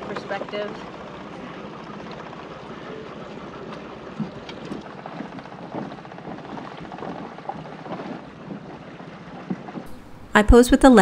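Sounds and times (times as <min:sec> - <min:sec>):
outboard motor running: 0:00.0 - 0:10.4.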